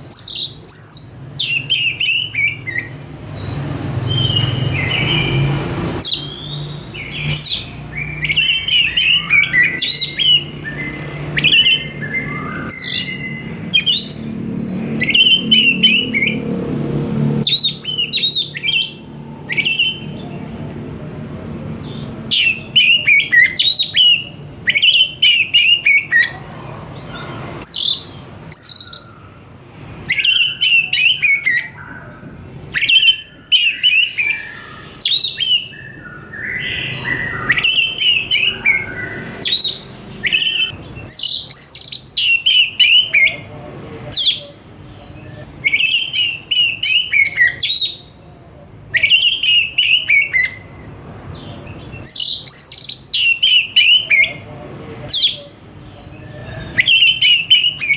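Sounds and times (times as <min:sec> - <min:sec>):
bird singing whistled phrases: 0:00.1 - 0:16.4, 0:17.4 - 0:20.2, 0:21.8 - 0:26.4, 0:27.0 - 0:29.4, 0:30.1 - 0:43.4, 0:45.1 - 0:48.1, 0:48.9 - 0:50.8, 0:51.9 - 0:54.4, 0:56.2 - 0:57.9.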